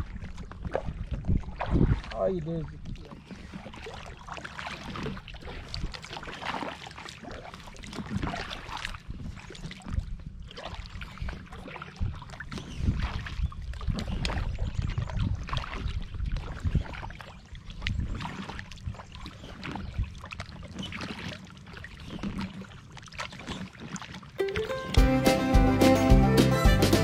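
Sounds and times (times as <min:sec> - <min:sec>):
paddles splashing in water: 0:00.0 - 0:27.0.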